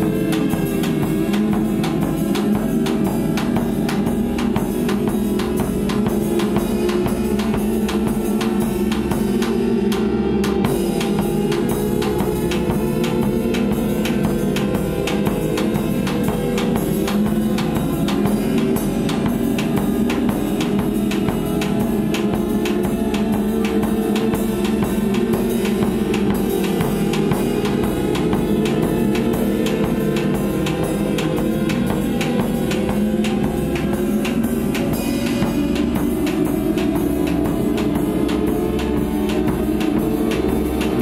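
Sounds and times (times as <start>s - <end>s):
bass drum: 0.0s - 41.0s
cymbal hits: 0.0s - 41.0s
snare drum: 0.0s - 41.0s
sustained low drone: 0.0s - 41.0s.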